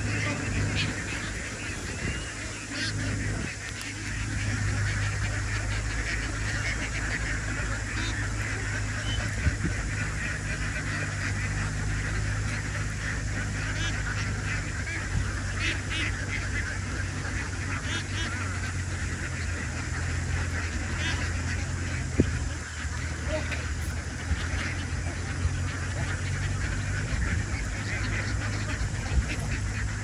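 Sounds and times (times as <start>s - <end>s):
ducks quacking: 0.0s - 30.0s
steady low hum: 0.0s - 30.0s.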